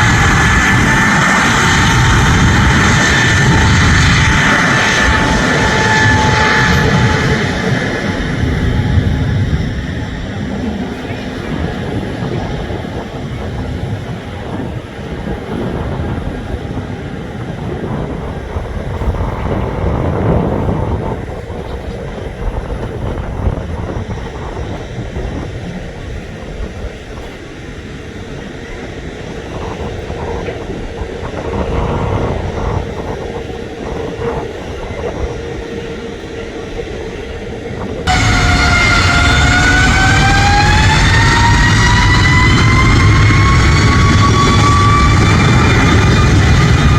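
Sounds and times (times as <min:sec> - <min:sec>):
distant jet engines rumbling: 0:00.0 - 0:46.9.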